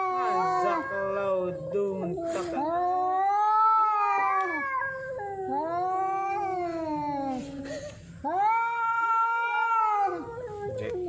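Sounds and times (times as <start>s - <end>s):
cats yowling: 0.0s - 11.0s.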